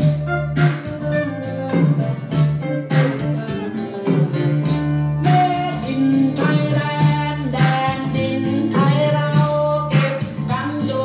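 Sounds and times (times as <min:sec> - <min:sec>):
recorded music from loudspeakers: 0:00.0 - 0:11.0.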